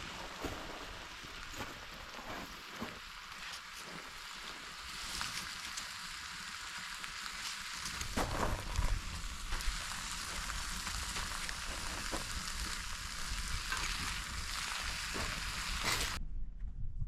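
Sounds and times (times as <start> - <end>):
food sizzling as it fries: 0.0 - 16.2.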